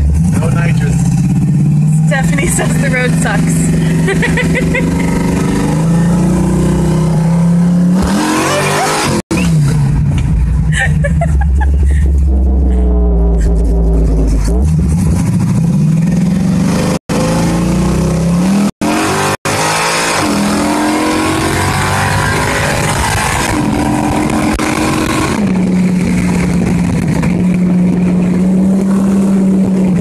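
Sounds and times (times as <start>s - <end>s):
car engine pulling through gears: 0.0s - 30.0s.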